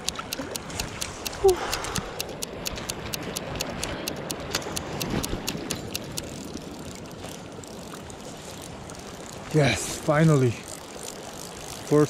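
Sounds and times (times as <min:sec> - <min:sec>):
fly reel clicking: 0:00.0 - 0:12.0.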